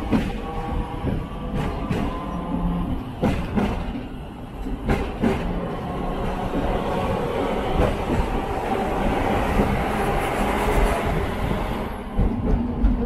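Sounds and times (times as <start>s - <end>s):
tram rumbling: 0.0s - 13.0s
wheels clacking over rail joints: 0.0s - 13.0s.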